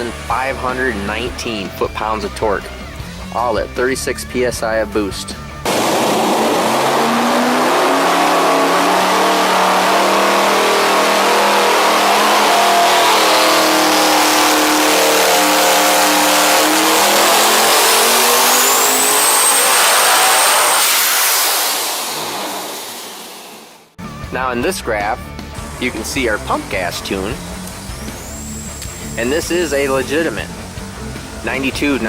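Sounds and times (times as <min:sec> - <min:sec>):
engine revving on dyno: 0:00.0 - 0:03.4, 0:05.6 - 0:24.0, 0:25.5 - 0:32.0
high whine: 0:00.0 - 0:32.0.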